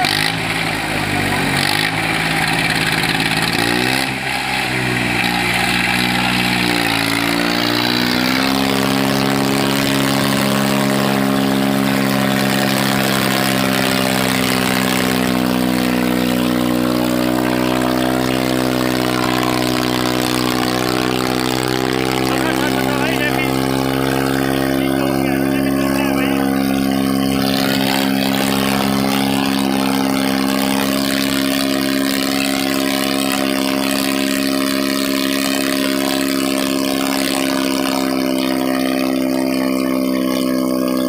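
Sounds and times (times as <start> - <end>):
tractor diesel engine revving: 0.0 - 41.0.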